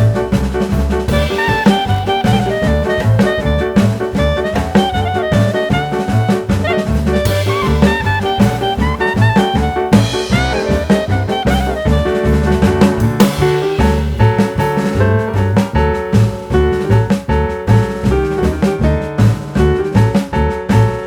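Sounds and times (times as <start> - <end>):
upbeat swing jazz music: 0.0 - 21.0.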